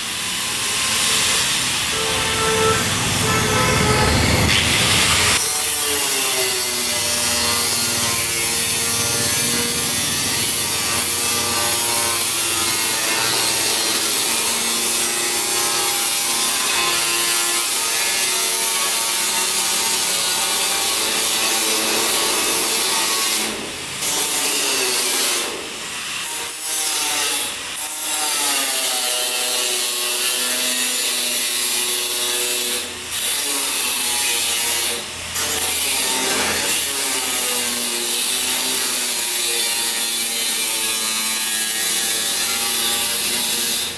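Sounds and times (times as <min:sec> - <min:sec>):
steel plate being cut: 0:00.0 - 0:43.9.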